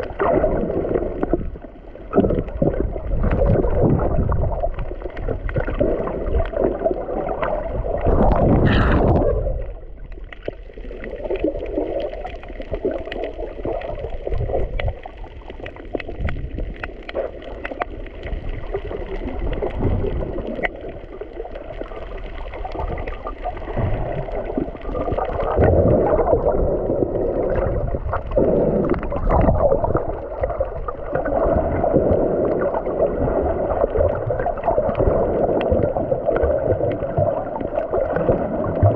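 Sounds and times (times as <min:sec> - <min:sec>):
muffled underwater sloshing: 0:00.0 - 0:38.9
rush of water: 0:00.0 - 0:38.9.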